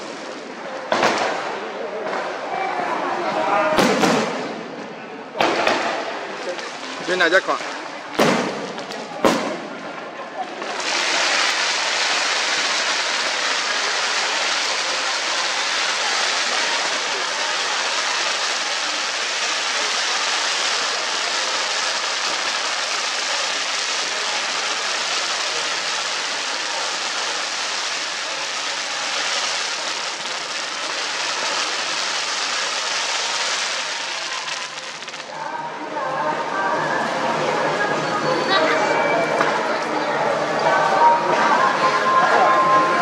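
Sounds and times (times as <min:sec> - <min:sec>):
fireworks crackling: 0:00.0 - 0:35.9.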